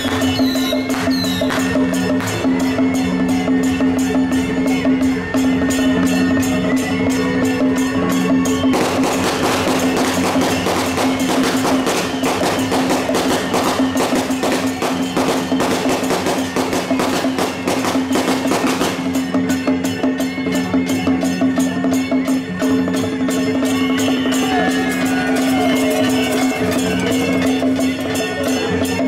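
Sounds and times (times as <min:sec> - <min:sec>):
rapid percussion clatter: 0:00.0 - 0:29.0.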